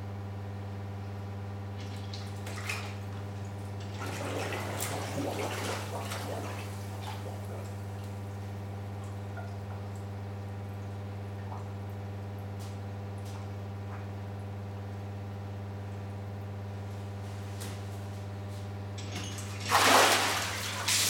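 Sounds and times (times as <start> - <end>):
low electrical hum: 0.0 - 21.0
water splashing in a tank: 1.7 - 16.9, 19.2 - 21.0.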